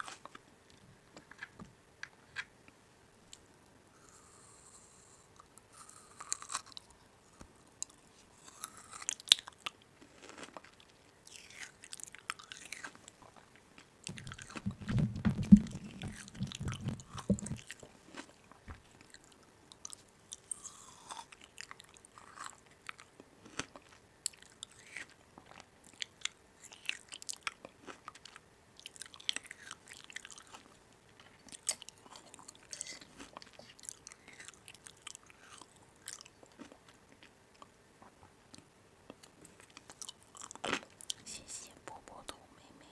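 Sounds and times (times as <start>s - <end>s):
biting and chewing crisp food: 0.0s - 2.5s, 4.0s - 41.2s.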